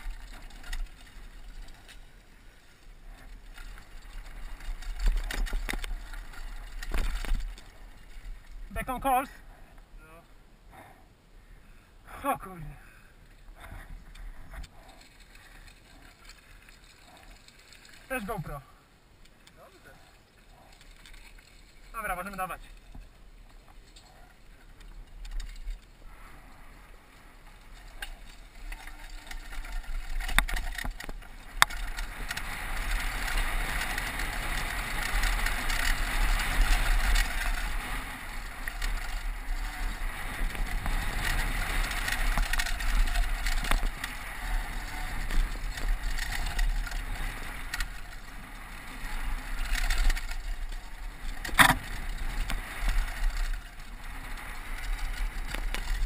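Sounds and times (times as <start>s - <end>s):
bike rattling: 0.0s - 10.3s, 12.7s - 56.0s
bike tyre noise on dirt: 0.0s - 56.0s.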